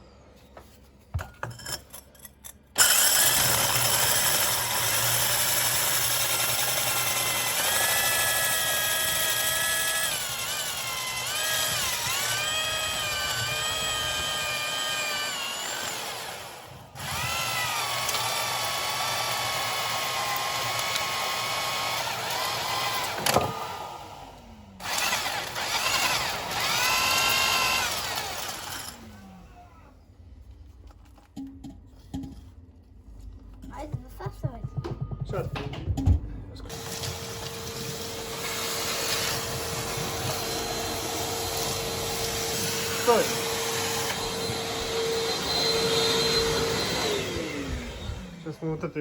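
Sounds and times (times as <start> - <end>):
power drill whining: 2.8 - 30.0, 36.7 - 49.0.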